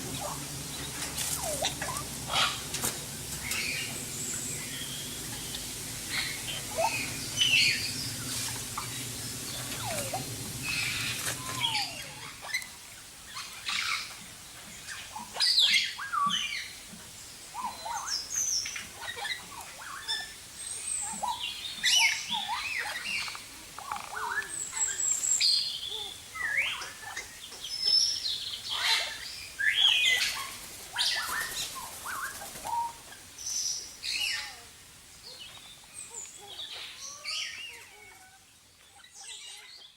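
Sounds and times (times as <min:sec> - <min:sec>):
birds chirping: 0:00.0 - 0:34.6.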